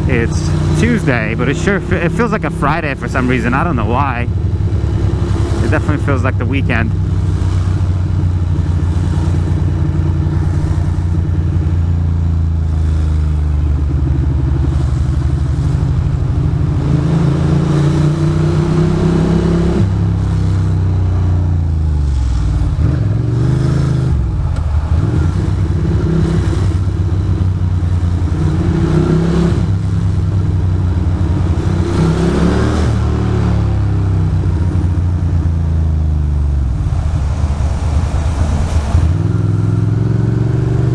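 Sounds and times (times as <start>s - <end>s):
motorcycle engine revving: 0.0s - 35.9s, 36.7s - 40.9s.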